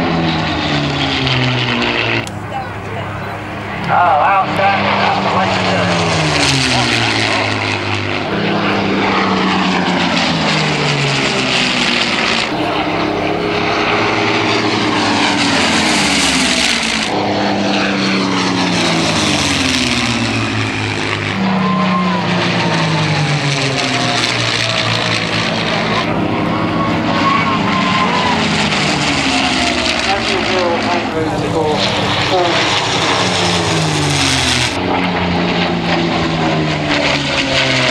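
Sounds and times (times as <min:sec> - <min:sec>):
propeller planes flying past: 0:00.0 - 0:37.9.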